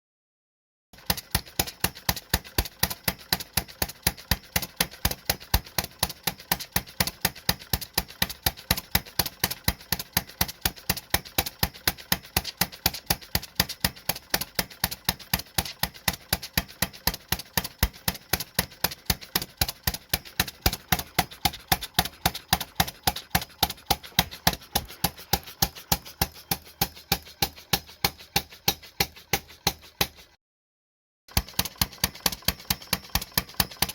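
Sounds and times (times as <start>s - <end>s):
model engine popping: 1.0s - 30.4s, 31.3s - 33.9s.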